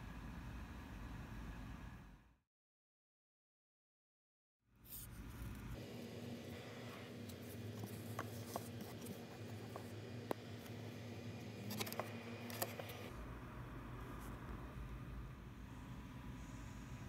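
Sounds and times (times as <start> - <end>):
steady low hum: 0.0 - 2.4, 4.7 - 17.0.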